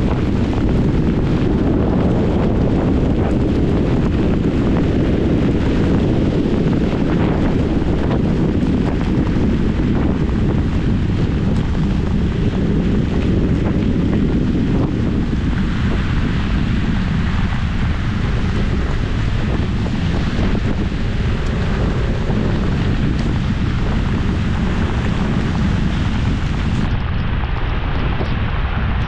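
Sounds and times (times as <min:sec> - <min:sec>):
hiss of rain on wet road: 0:00.0 - 0:29.0
wind buffeting microphone: 0:00.0 - 0:29.0.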